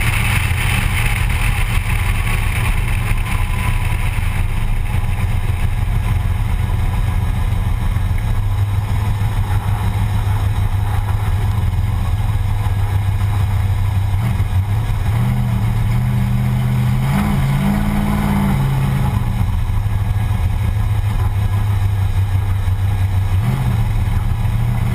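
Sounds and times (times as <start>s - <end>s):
car engine deep rumble: 0.0s - 24.9s.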